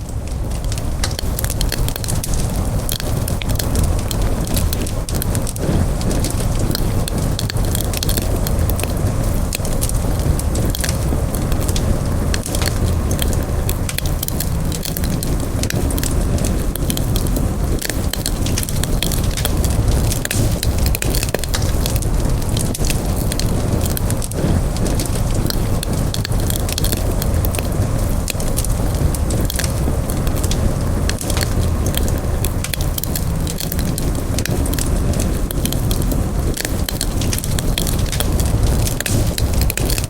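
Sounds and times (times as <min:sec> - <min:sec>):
campfire crackling: 0:00.0 - 0:40.0
fire pops and snaps: 0:00.0 - 0:40.0.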